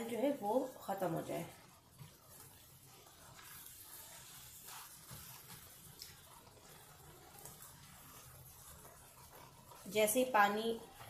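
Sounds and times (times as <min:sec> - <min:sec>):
food sizzling in a frying pan: 0:00.0 - 0:11.0
spatula stirring: 0:00.0 - 0:11.0.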